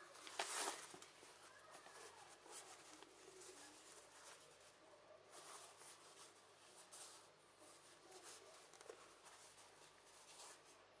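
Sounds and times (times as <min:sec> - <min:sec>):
fabric pads rustling: 0:00.0 - 0:11.0.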